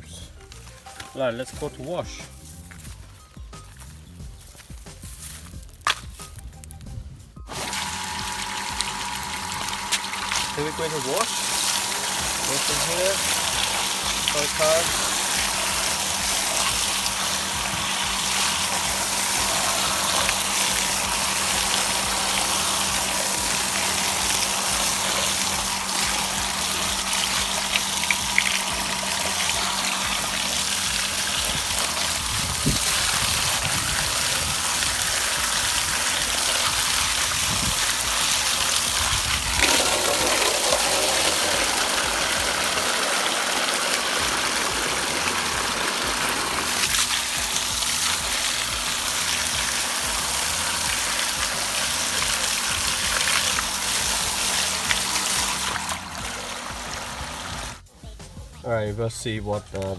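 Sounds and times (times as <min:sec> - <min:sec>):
running water gushing: 0:07.5 - 0:57.9.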